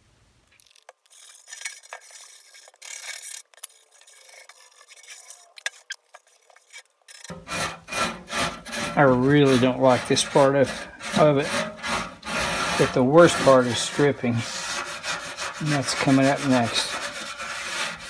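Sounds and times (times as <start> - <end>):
steel wool scrubbing metal: 1.0 - 18.0.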